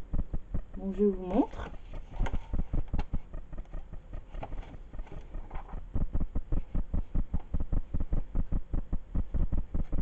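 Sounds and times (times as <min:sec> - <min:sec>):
rapid low thumping: 0:00.0 - 0:10.0.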